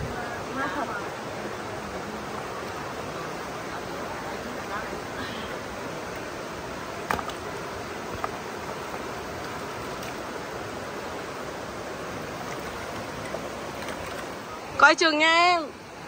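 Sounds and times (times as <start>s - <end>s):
rocky stream running: 0.0s - 16.0s.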